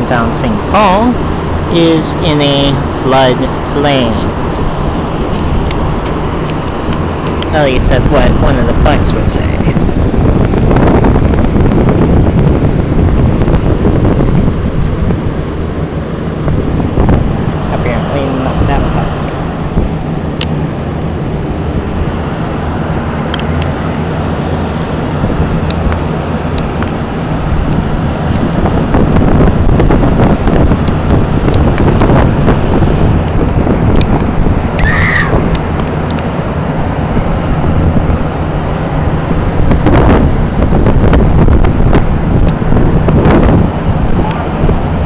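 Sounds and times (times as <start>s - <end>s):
road traffic rumble: 0.0s - 45.0s
wind on microphone: 0.0s - 45.0s.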